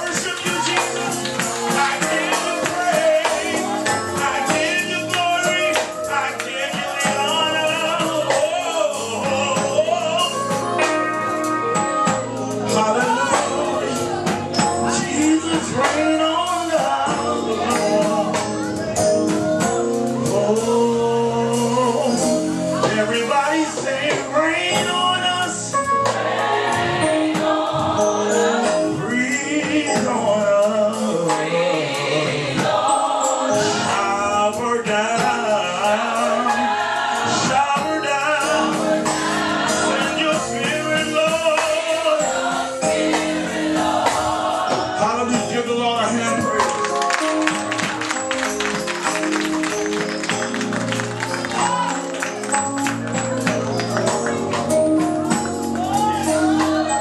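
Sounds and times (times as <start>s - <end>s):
people singing: 0.0s - 19.1s, 20.2s - 48.3s, 55.3s - 57.0s
tambourine keeping time: 0.0s - 57.0s
worship band playing: 0.0s - 57.0s.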